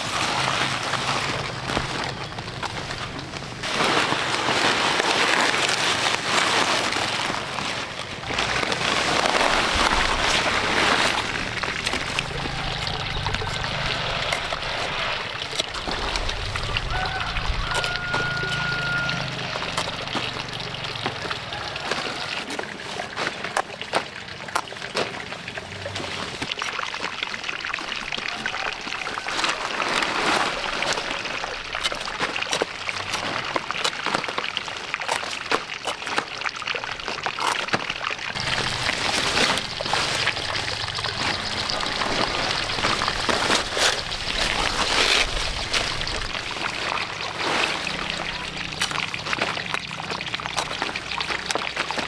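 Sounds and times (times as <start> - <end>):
leaves rustling: 0.0 - 24.2, 24.9 - 52.0.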